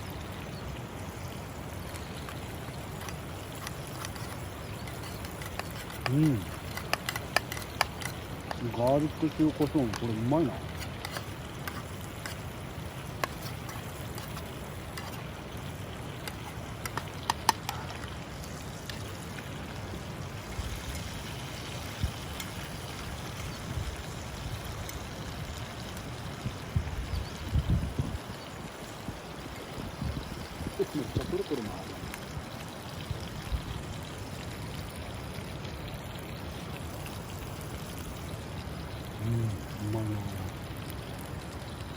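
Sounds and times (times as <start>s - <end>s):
river water flowing: 0.0s - 26.4s, 28.3s - 41.9s.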